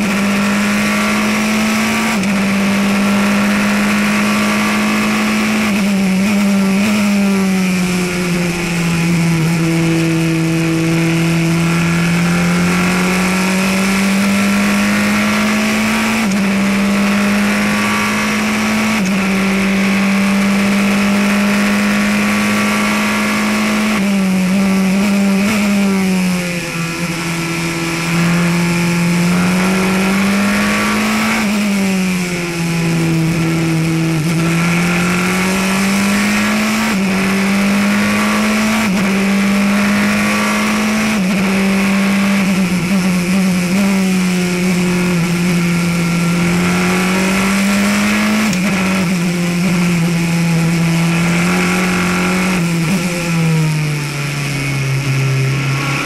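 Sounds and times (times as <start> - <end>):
race car engine shifting gears: 0.0 - 56.0
wind and road noise: 0.0 - 56.0.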